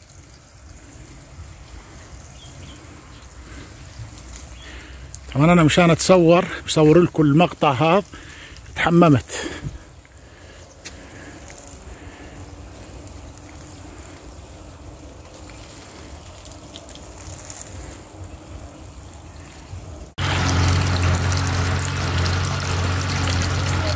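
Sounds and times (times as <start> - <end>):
lawn sprinkler spraying water: 0.0 - 23.9
water gushing from hose: 0.0 - 23.9.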